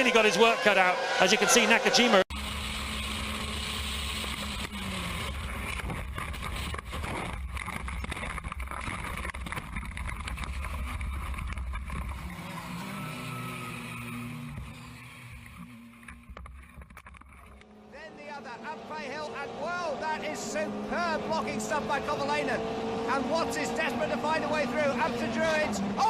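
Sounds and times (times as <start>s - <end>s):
racing car engines droning: 0.0s - 16.5s, 17.2s - 26.0s.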